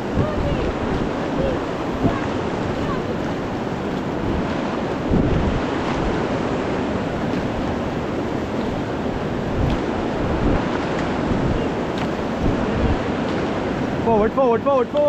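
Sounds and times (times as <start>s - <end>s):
wind buffeting microphone: 0.0s - 14.5s
whitewater rushing: 0.0s - 15.0s.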